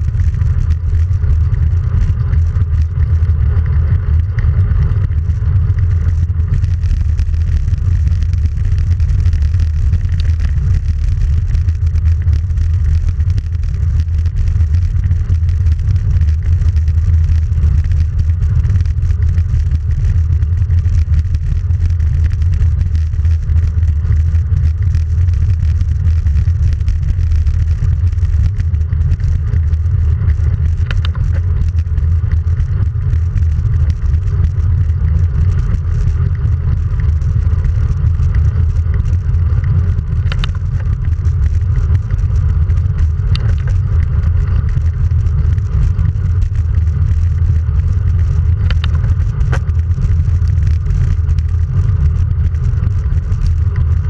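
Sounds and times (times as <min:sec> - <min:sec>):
faint ticks: 0:00.1 - 0:54.0.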